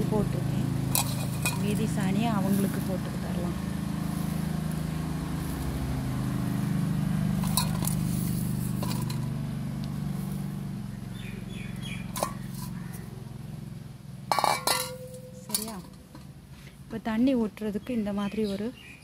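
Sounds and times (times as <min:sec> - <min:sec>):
low mechanical hum: 0:00.0 - 0:18.2.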